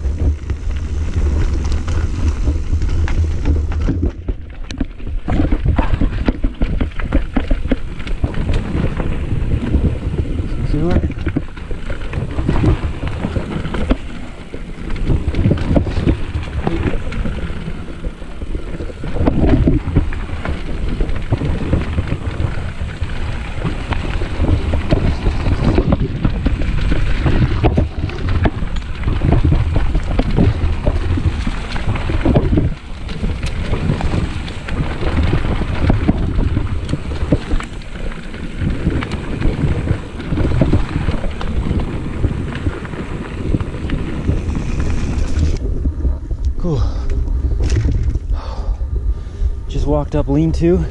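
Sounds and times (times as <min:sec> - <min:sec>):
bike rattling and knocking: 0:00.0 - 0:47.0
bike tyres rolling on dirt: 0:00.0 - 0:50.9
wind buffeting microphone: 0:00.0 - 0:50.9.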